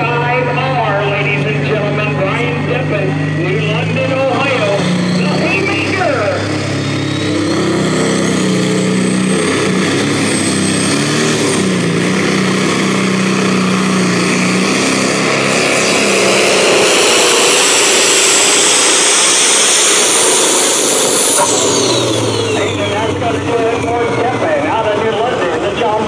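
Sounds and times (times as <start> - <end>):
diesel engine running under load: 0.0 - 26.0
high turbo whine: 0.0 - 26.0.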